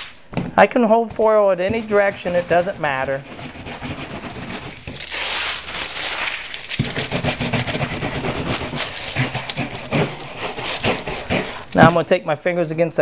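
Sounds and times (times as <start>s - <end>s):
cloth rubbing crinkling foil: 1.1s - 12.1s.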